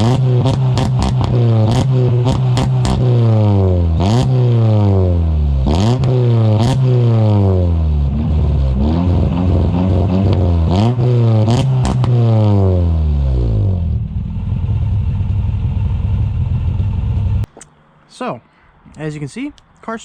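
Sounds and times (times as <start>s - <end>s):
car engine idling: 0.0s - 17.5s
car engine revving: 0.0s - 17.5s.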